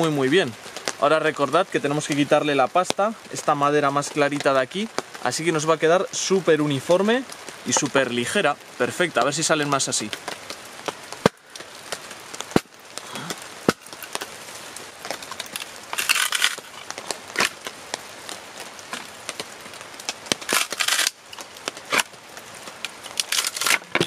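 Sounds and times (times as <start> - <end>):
wood crackling and splitting: 0.0 - 24.0.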